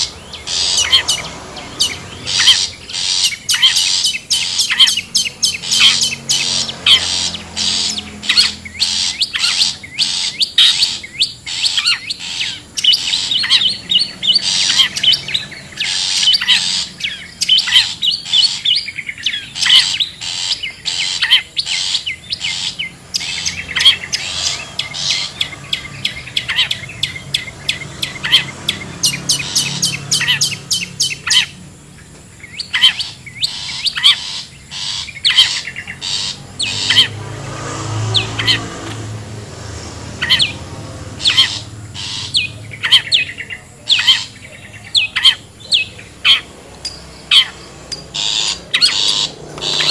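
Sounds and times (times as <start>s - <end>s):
birds chirping and chattering: 0.0s - 49.9s.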